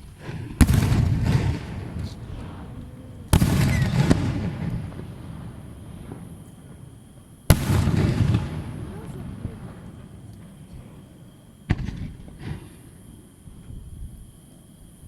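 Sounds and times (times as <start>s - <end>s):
fireworks bangs: 0.0s - 13.9s
rolling rumble: 0.0s - 14.4s.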